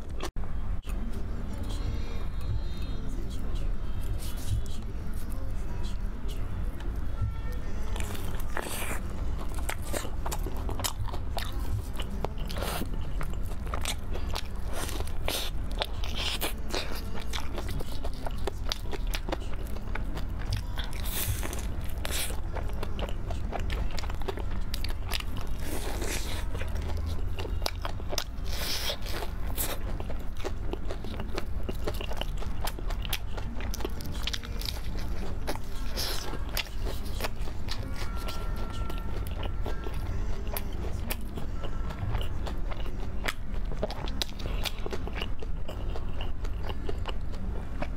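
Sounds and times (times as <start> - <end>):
crunchy chewing of fried food: 1.1 - 47.9.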